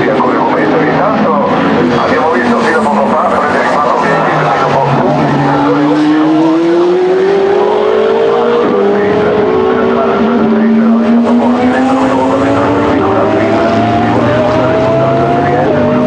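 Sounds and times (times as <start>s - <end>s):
race car engines accelerating: 0.0s - 16.0s.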